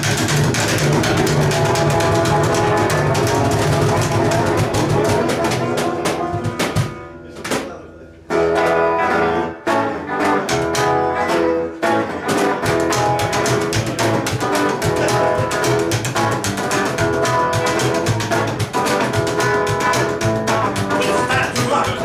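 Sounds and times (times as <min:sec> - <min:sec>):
electric guitar: 0:00.0 - 0:07.5, 0:08.2 - 0:22.0
rockabilly band playing: 0:00.0 - 0:22.0
upright bass plucking: 0:00.0 - 0:22.0.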